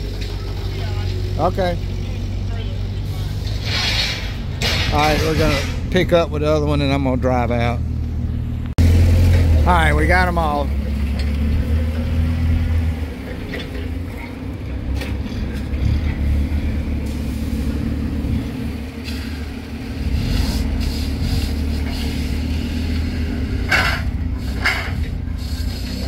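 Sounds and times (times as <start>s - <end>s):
forklift engine running: 0.0s - 26.0s.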